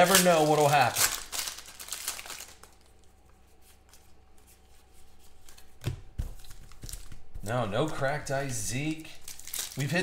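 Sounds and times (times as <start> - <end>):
cards rustling and flicking: 0.0 - 10.0.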